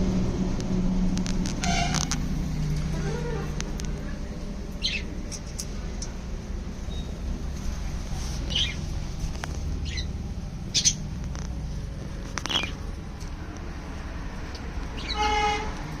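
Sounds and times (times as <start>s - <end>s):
steady low rumble: 0.0s - 15.2s
cage birds chirping: 1.6s - 13.3s, 14.5s - 16.0s.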